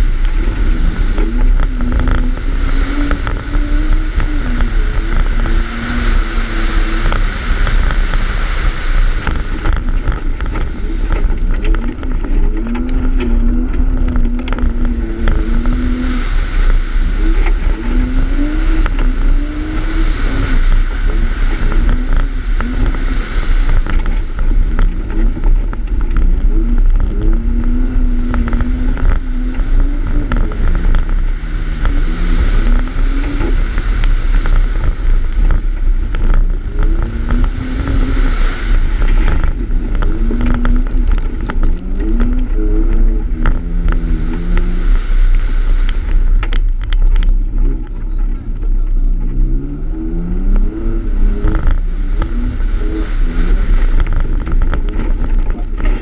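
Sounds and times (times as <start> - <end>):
gravel hitting car: 0.0 - 44.6, 53.7 - 56.0
car engine revving: 0.0 - 56.0
wind rumble on microphone: 0.0 - 56.0.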